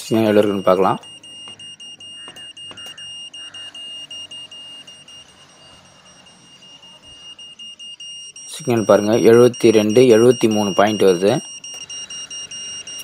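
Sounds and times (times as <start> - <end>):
meter beeping high-pitched: 0.0 - 13.0.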